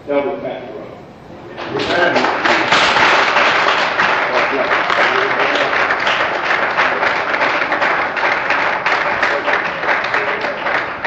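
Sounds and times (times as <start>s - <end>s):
congregation clapping: 1.5s - 11.0s.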